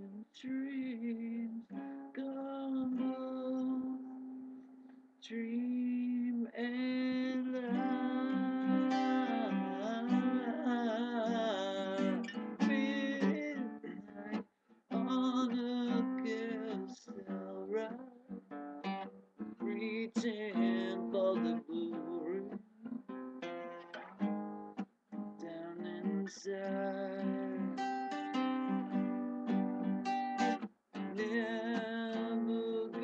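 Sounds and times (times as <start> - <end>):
guitar with bending notes: 0.0 - 5.0, 5.7 - 33.0.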